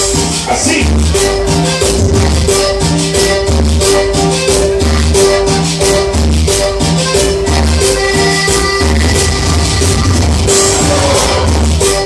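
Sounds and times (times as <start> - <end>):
loud cumbia music: 0.0 - 12.0.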